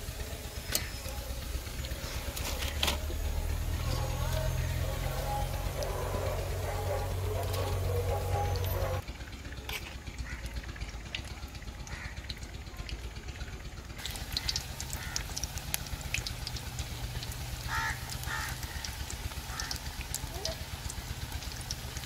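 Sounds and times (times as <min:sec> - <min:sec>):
batter deep-frying in oil: 0:00.0 - 0:22.0.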